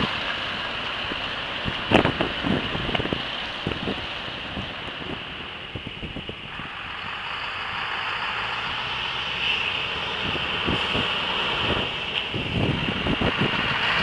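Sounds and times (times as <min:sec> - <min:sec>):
approaching truck engine: 0:00.0 - 0:14.0
truck engines pulling away: 0:00.0 - 0:14.0
wind buffeting microphone: 0:00.0 - 0:14.0.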